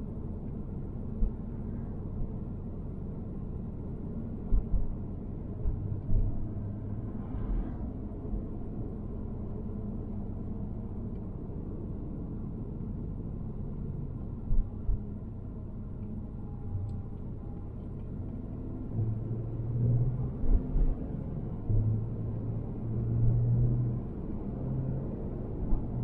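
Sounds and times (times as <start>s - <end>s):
low hum: 0.0s - 24.4s
car road rumble: 0.0s - 26.0s.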